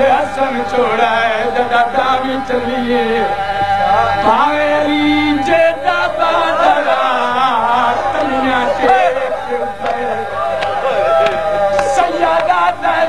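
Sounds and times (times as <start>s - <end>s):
man chanting: 0.0s - 13.0s
steady held tone: 0.0s - 13.0s.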